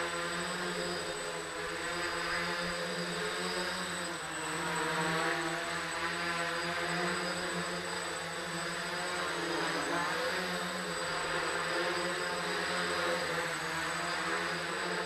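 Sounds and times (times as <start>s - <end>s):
quadcopter propellers buzzing: 0.0s - 15.0s.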